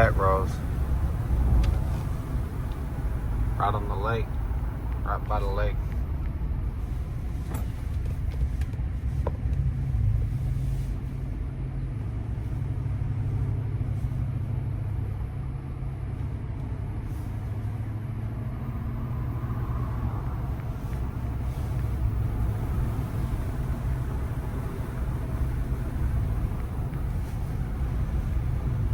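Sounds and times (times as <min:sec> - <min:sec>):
truck engine and tyre rumble: 0:00.0 - 0:28.9.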